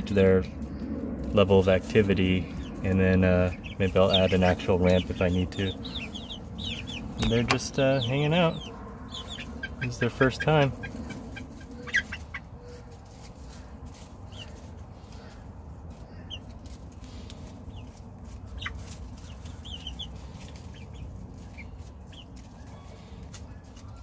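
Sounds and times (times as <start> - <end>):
chicks clucking and chirping: 0.0 - 24.0
low background rumble: 0.0 - 24.0.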